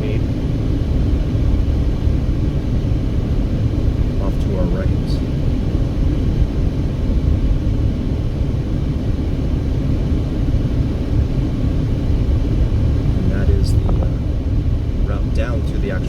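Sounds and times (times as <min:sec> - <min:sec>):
car cabin road and engine rumble: 0:00.0 - 0:16.0.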